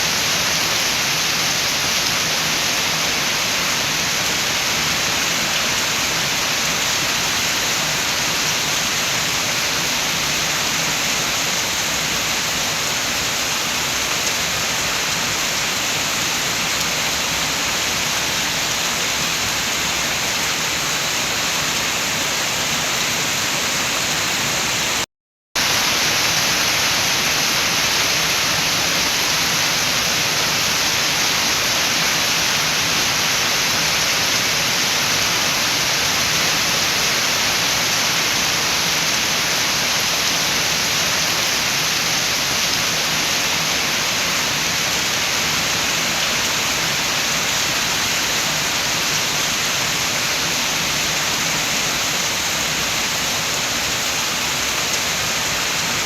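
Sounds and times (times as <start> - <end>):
steady rain with wind: 0.0 - 56.0.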